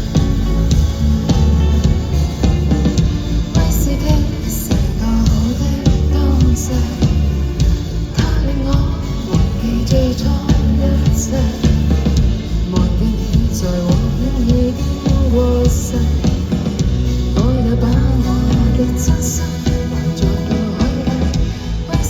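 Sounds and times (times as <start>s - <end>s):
instrumental pop band music: 0.0s - 22.0s.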